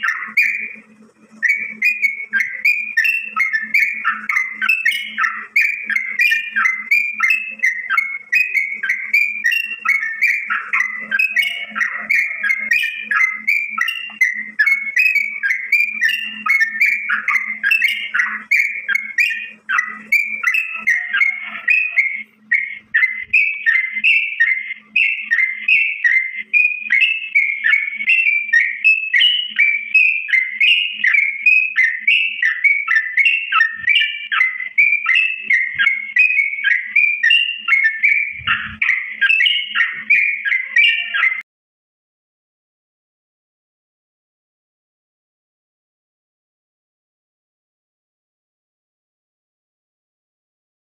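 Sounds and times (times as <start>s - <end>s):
bird chirping and warbling: 0.0s - 41.4s.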